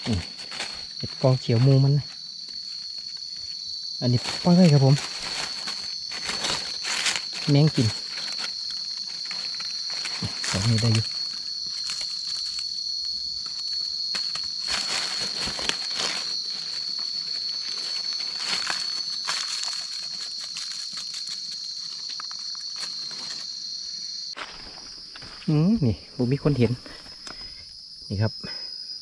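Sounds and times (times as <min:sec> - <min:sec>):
crunching of dry leaf litter: 0:00.0 - 0:23.8, 0:24.4 - 0:27.6
high-pitched insect drone: 0:00.0 - 0:29.0.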